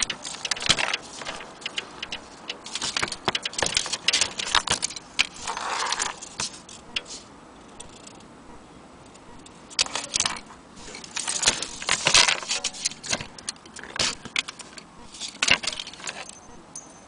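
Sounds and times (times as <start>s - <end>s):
metal clock parts clinking and rattling: 0.0s - 7.2s, 9.7s - 17.0s.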